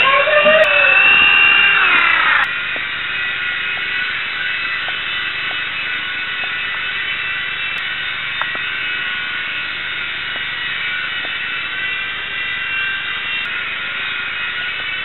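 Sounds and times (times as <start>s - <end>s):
small helicopter motor whining: 0.0s - 15.0s.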